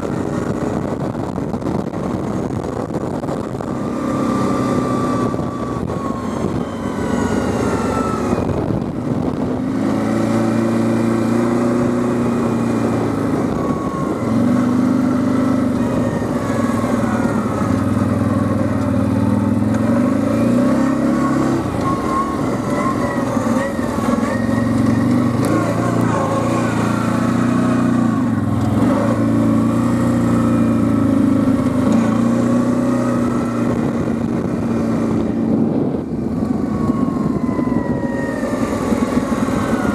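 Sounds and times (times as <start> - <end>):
quad bike engine revving: 3.1 - 39.9.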